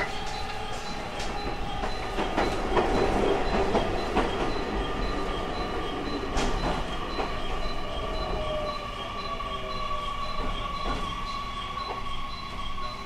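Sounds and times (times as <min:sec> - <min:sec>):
train rumble: 0:00.0 - 0:13.0
train wheels clicking over rail joints: 0:00.0 - 0:13.0.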